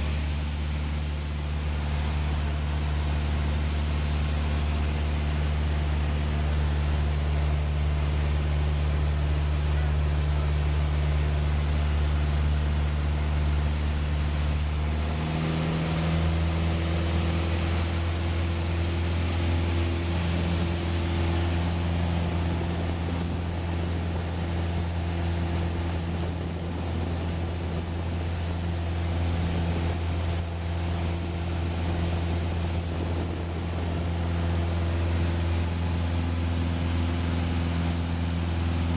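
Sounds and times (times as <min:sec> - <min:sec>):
small plane engine droning: 0:00.0 - 0:38.9.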